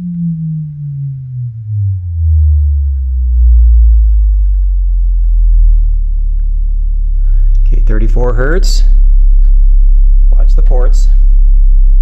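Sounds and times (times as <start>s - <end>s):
deep bass sine tone: 0.0s - 12.0s.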